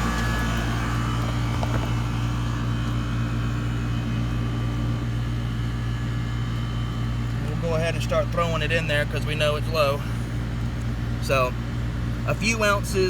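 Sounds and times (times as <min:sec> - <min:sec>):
compressor hum: 0:00.0 - 0:13.0
condenser fan noise: 0:00.0 - 0:13.0.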